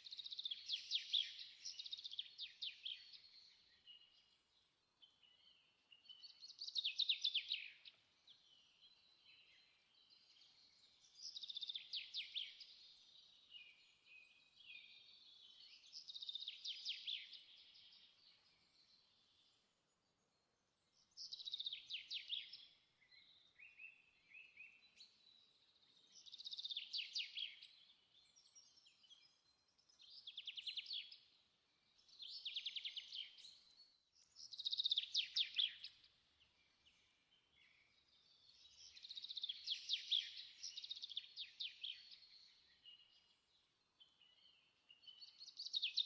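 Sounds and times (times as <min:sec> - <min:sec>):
songbird trilling and chirping: 0:05.0 - 0:19.6, 0:21.0 - 0:46.0.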